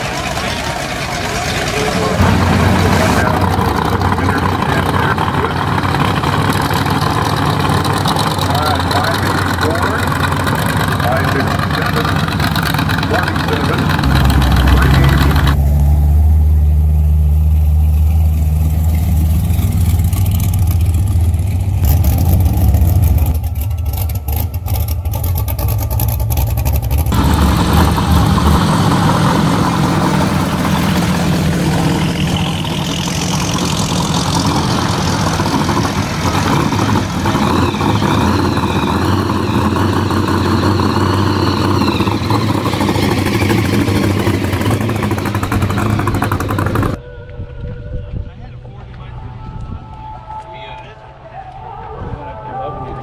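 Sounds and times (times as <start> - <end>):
hot rod engines running: 0.0 - 47.0
supercharged car engine: 0.0 - 47.0.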